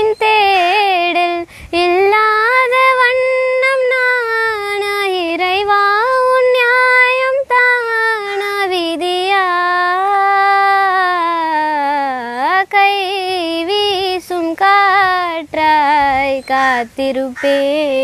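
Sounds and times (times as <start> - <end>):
girl singing unaccompanied: 0.0 - 18.0.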